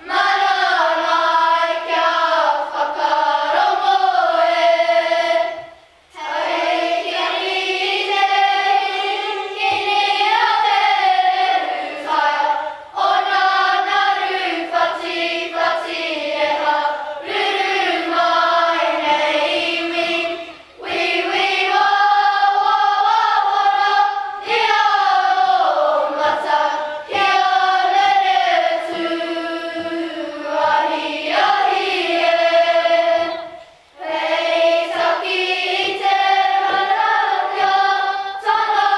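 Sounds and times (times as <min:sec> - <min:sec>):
children singing together: 0:00.0 - 0:38.9.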